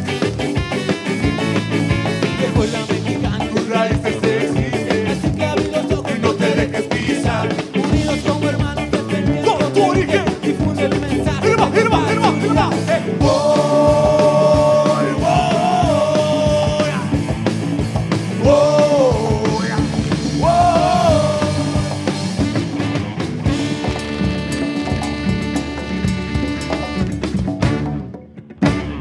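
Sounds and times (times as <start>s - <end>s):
live band playing upbeat song: 0.0s - 29.0s.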